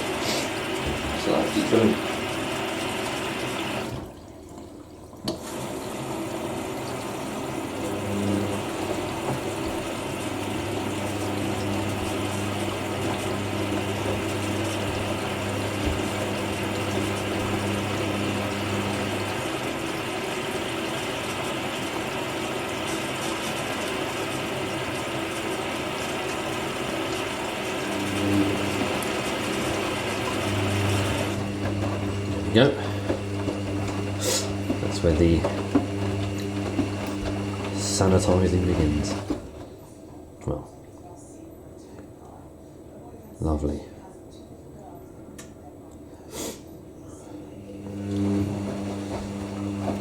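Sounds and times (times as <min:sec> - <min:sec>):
water rushing into washing machine: 0:00.0 - 0:40.4, 0:47.2 - 0:50.0.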